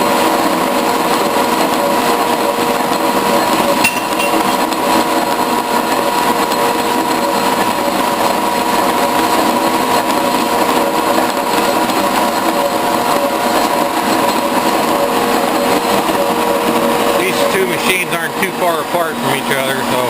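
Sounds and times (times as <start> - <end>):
machine whine: 0.0 - 20.0.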